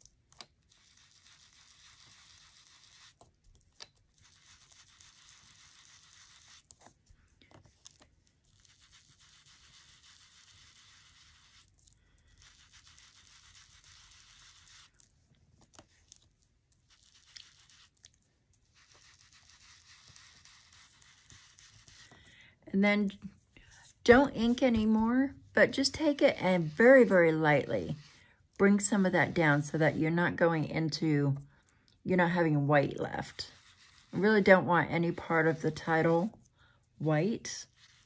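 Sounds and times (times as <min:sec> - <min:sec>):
foam dauber scrubbing on card: 0:00.6 - 0:07.0, 0:07.6 - 0:22.2, 0:25.6 - 0:30.7, 0:32.2 - 0:36.4, 0:37.1 - 0:38.0.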